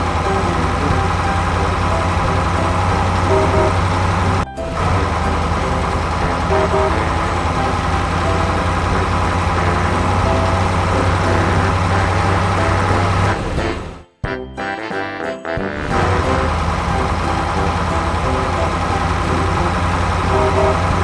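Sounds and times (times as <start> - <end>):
dump truck engine running: 0.0 - 14.1, 15.8 - 21.0
horn toot: 0.0 - 21.0.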